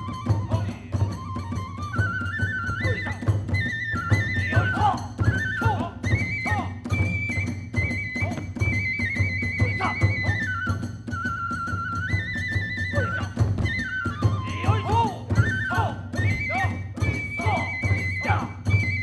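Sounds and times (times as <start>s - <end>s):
bamboo flute melody: 0.0s - 19.0s
fast steady drumming: 0.0s - 19.0s.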